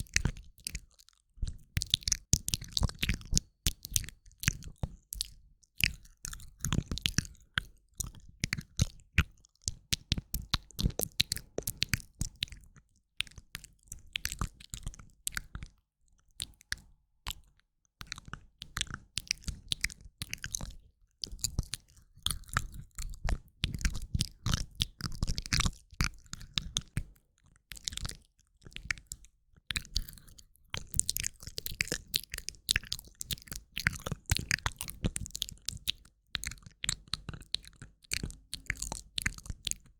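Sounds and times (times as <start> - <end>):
wet mouth clicks and smacks: 0.1 - 39.9.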